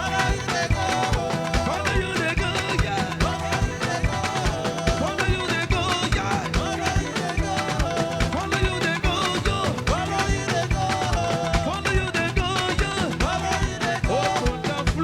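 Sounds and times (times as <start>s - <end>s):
live band playing dance music: 0.0s - 15.0s
steady drum beat: 0.0s - 15.0s.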